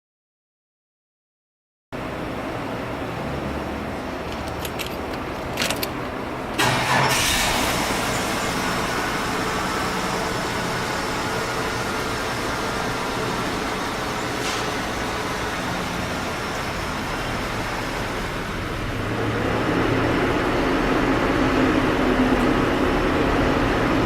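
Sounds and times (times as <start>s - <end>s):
car engine starting and idling: 2.0s - 24.0s.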